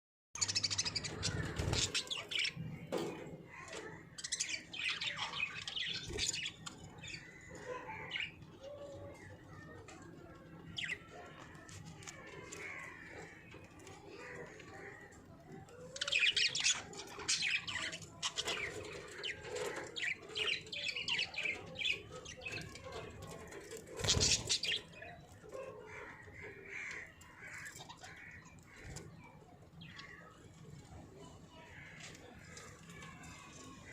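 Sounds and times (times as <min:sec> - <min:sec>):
budgerigars chirping and warbling: 0:00.4 - 0:31.1.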